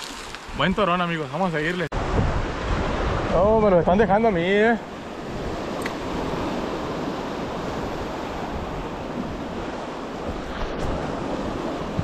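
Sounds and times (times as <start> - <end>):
surf breaking around rocks: 0.0 - 12.0.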